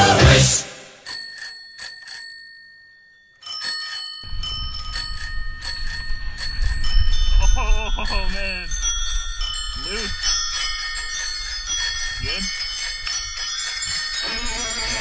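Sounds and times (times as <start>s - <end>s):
bicycle bells ringing: 0.9s - 15.0s.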